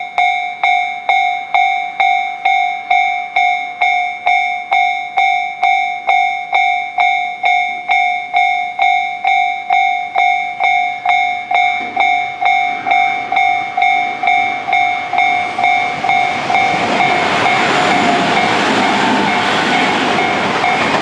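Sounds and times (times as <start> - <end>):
level crossing bell dinging: 0.0 - 21.0.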